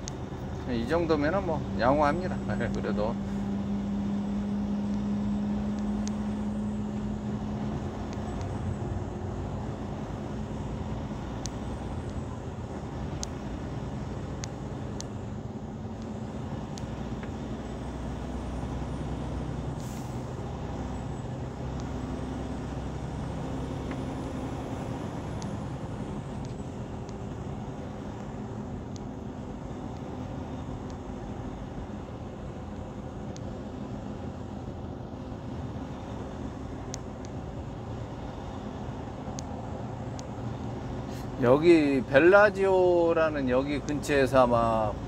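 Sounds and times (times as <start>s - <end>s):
truck engine and road drone: 0.0s - 45.0s.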